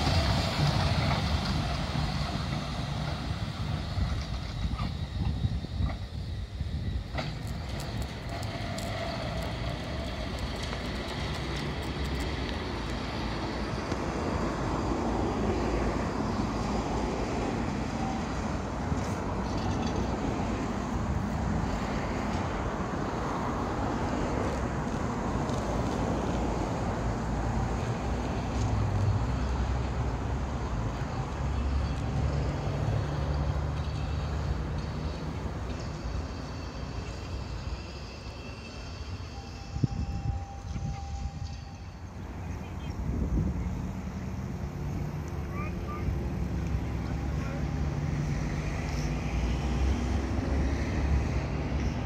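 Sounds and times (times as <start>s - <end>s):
tram wheels rumbling: 0.0s - 52.0s.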